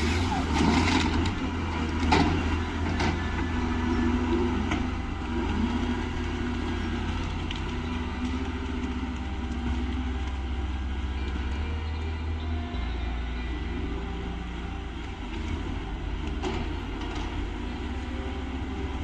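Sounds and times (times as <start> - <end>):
heavy machinery engine drone: 0.0 - 19.0
wavering whine: 0.0 - 19.0.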